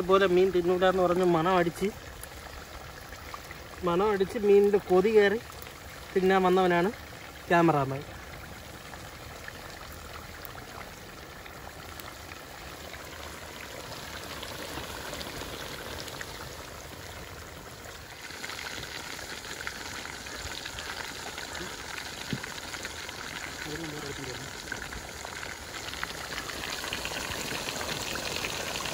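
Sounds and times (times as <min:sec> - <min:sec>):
fish deep-frying in oil: 0:00.0 - 0:28.9.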